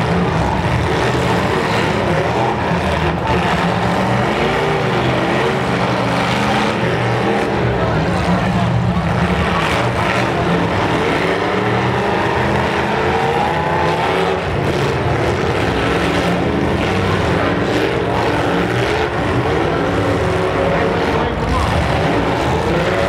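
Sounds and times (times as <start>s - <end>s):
car engines revving: 0.0s - 23.0s
cars ramming each other: 0.0s - 23.0s.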